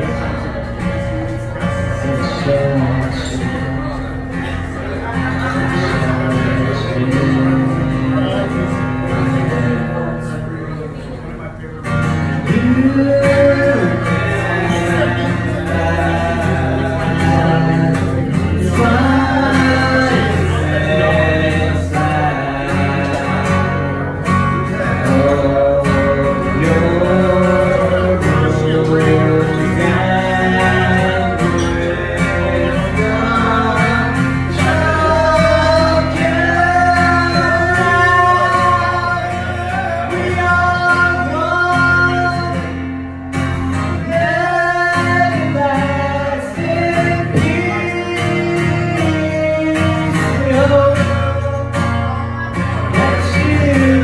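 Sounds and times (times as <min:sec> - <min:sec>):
man singing: 0:00.0 - 0:54.0
strummed acoustic guitar: 0:00.0 - 0:54.0.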